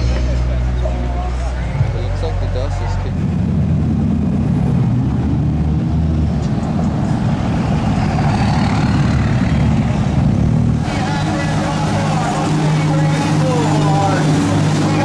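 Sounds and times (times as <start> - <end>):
cars and trucks driving past: 0.0 - 15.0
road noise: 0.0 - 15.0.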